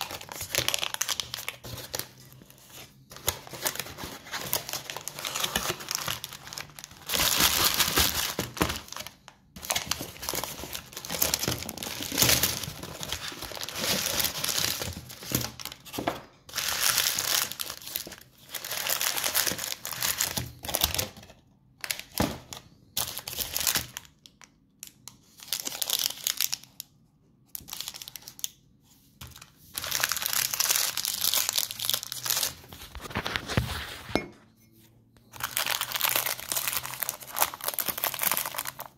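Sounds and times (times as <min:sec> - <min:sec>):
candy wrappers crinkling: 0:00.0 - 0:26.9, 0:27.6 - 0:28.6, 0:29.2 - 0:34.0, 0:35.2 - 0:38.9.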